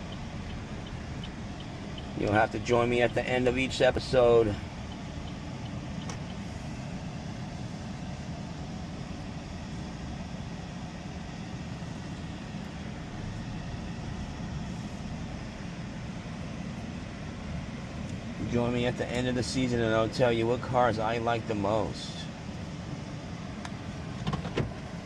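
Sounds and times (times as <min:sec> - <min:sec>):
car engine rumble: 0:00.0 - 0:25.0
road noise: 0:00.0 - 0:25.0.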